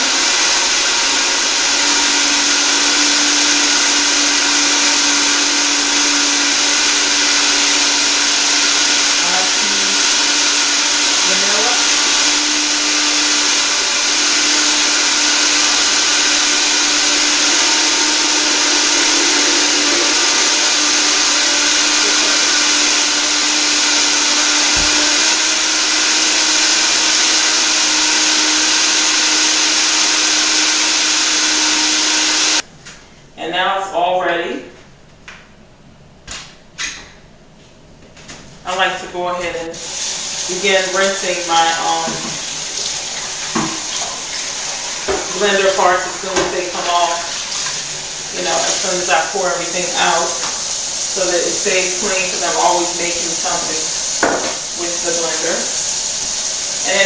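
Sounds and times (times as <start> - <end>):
blender motor running: 0.0 - 32.6, 39.7 - 57.0.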